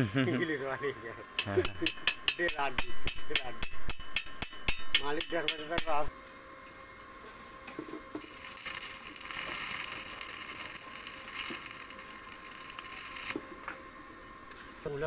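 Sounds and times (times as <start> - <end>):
welding arc crackling hiss: 0.0 - 15.0.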